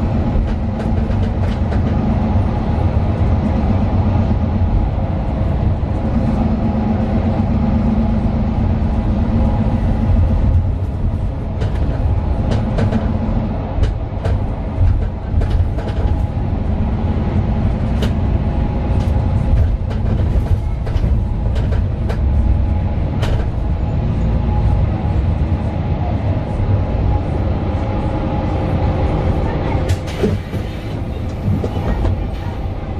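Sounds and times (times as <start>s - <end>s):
bus diesel engine droning: 0.0s - 32.9s
rattles and clicks from bus body: 0.0s - 32.9s.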